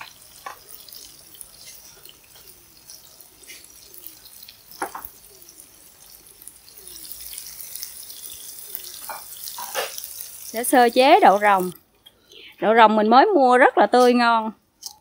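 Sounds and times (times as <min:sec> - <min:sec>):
tofu deep-frying in oil: 0:00.0 - 0:15.0.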